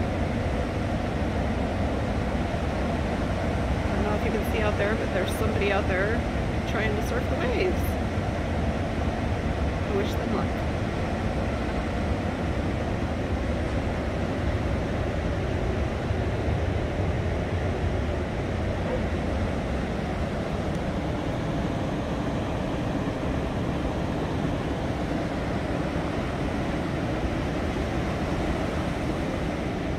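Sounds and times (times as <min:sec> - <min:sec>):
surf breaking on a beach: 0:00.0 - 0:29.9.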